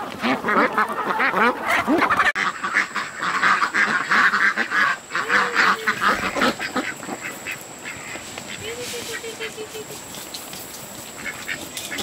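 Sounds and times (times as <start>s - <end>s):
ducks quacking: 0.0s - 10.0s, 11.1s - 12.0s.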